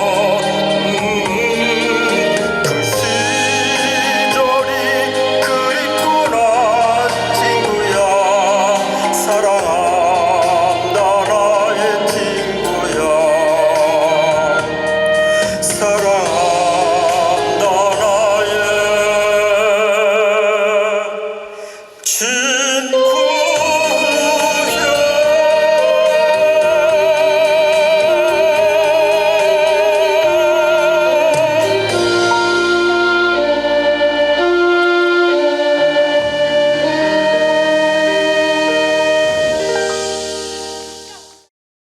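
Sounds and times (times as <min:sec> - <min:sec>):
trot music with vibrato melody: 0:00.0 - 0:20.6, 0:22.3 - 0:41.5.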